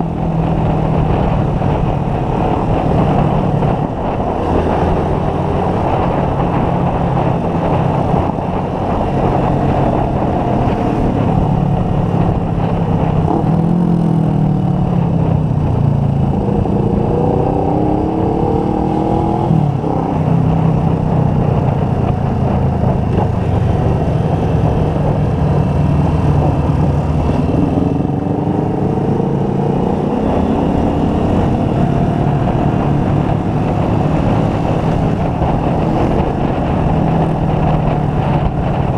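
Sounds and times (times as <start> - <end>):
motorcycle engine revving: 0.0 - 38.9
wind rushing over microphone: 0.0 - 38.9.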